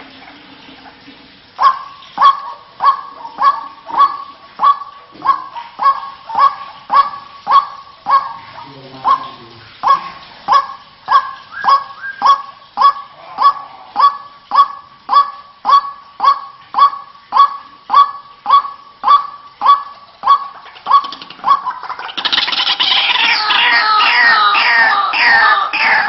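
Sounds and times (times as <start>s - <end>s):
bird harsh honking call: 1.6s - 26.0s.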